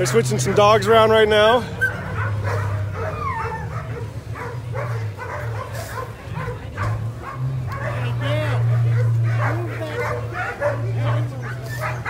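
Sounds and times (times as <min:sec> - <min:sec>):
sled dogs barking and yelping: 0:00.0 - 0:12.0.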